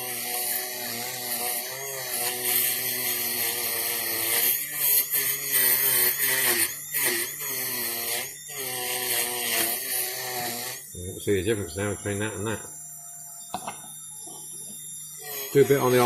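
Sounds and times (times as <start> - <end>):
rotary tool grinding metal: 0.0 - 11.0, 13.4 - 16.0.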